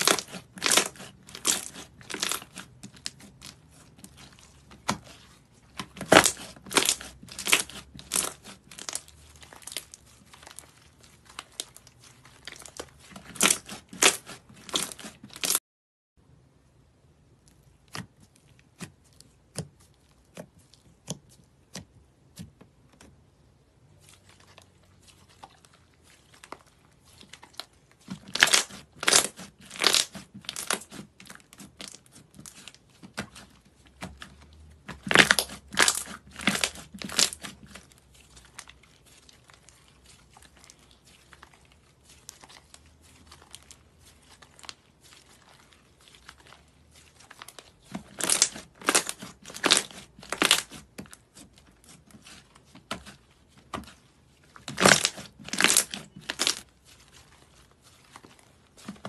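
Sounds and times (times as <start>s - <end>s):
slime crackling: 0.0s - 15.6s, 17.3s - 59.0s.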